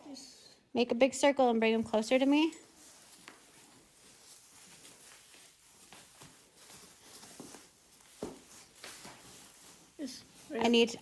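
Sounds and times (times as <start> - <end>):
faint scuffing footsteps: 1.7 - 11.0.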